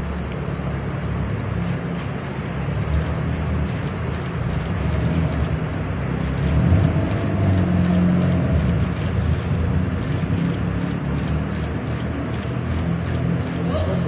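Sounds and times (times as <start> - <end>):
sports car engine rumbling: 0.0 - 14.0.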